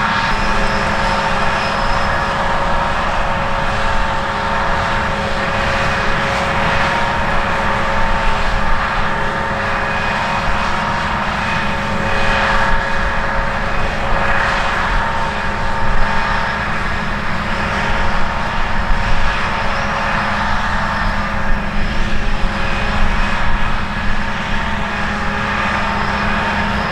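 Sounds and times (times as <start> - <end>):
diesel machinery engine drone: 0.0 - 26.9.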